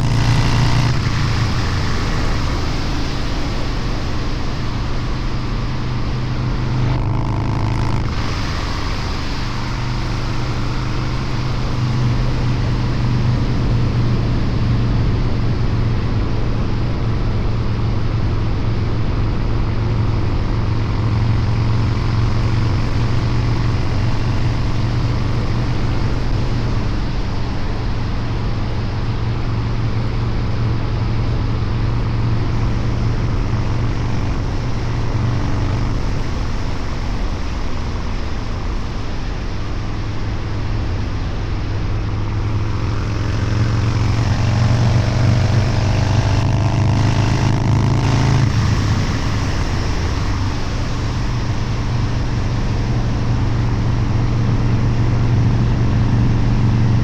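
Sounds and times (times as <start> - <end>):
motorcycle exhaust under way: 0.0 - 57.0.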